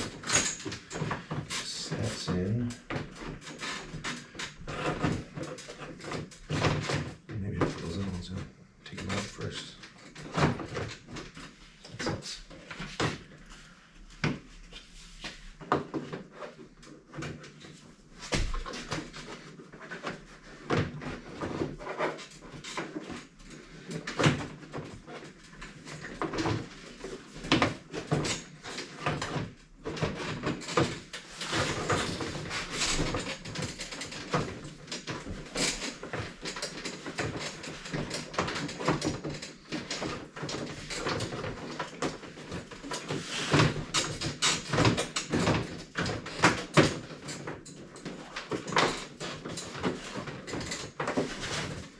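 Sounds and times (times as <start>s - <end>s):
plastic parts clicking and scraping: 0.0s - 51.9s.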